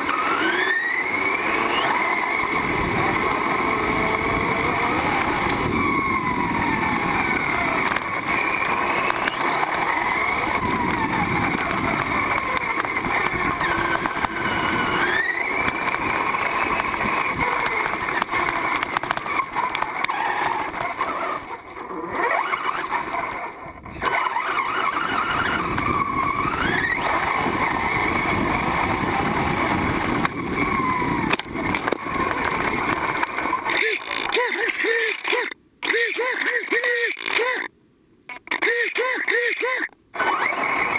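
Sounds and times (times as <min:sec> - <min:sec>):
toy car motor whining: 0:00.0 - 0:37.7, 0:38.3 - 0:40.9
wheels on gravel and grass: 0:00.0 - 0:37.7, 0:40.1 - 0:40.9.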